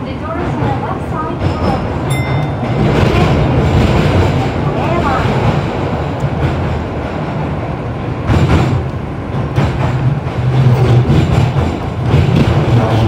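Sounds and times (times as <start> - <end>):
subway train rumbling in tunnel: 0.0 - 13.0
wheel and rail rattles: 0.1 - 13.0.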